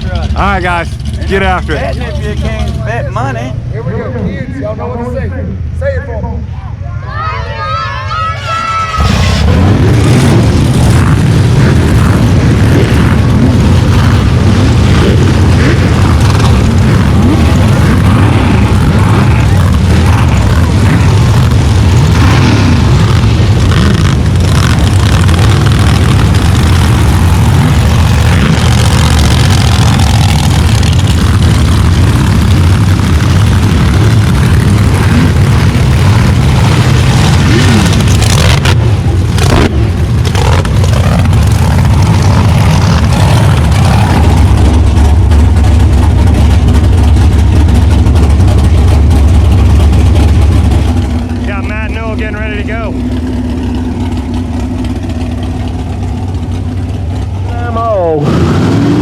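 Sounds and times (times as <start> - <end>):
truck engines rumbling and revving: 0.0 - 59.0.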